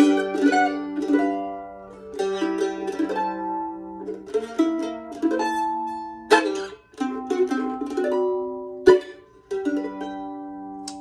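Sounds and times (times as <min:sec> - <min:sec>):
mandolin picking: 0:00.0 - 0:11.0.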